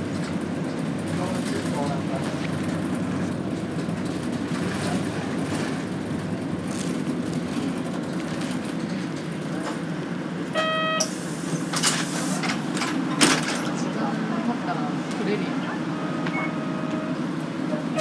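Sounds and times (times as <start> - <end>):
bus engine and road drone: 0.0 - 18.0.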